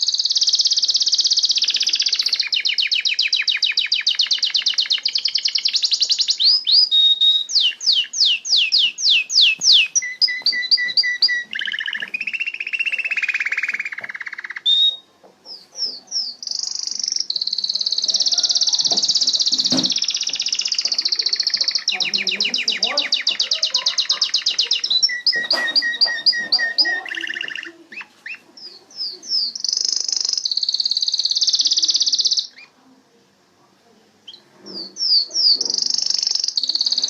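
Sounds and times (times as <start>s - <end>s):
canary singing: 0.0s - 32.9s, 34.2s - 37.0s.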